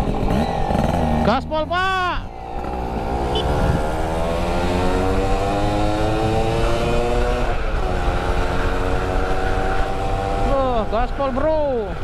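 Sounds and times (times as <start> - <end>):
motorcycle engine accelerating: 0.0 - 11.1.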